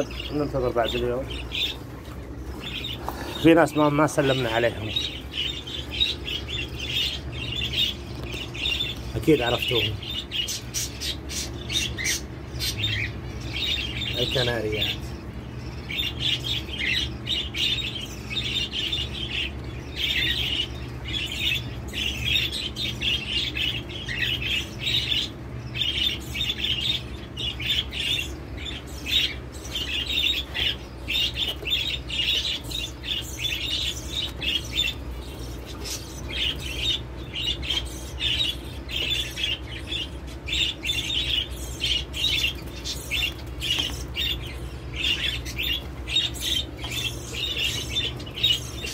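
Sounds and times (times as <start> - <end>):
canaries chirping: 0.0 - 48.9
electric fan humming: 0.0 - 48.9.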